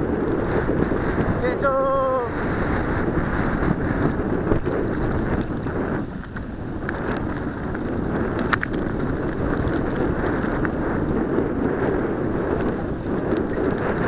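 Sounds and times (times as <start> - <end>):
bike rattling: 0.0 - 14.0
wind buffeting microphone: 0.0 - 14.0
tyres rolling on dirt: 2.7 - 14.0.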